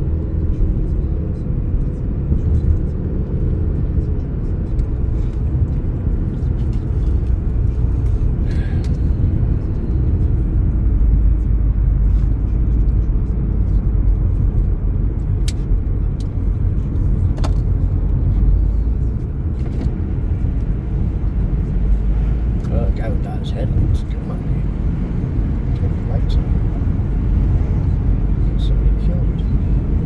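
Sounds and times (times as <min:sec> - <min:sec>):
road and engine rumble: 0:00.0 - 0:30.0.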